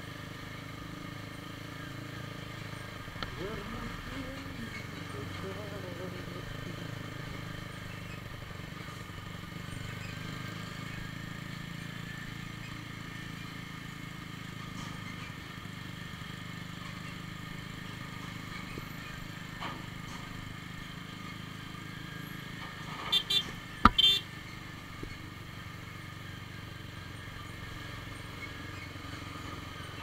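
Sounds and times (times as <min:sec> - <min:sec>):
motorcycle engine drone: 0:00.0 - 0:30.0
heavy truck running: 0:01.8 - 0:30.0.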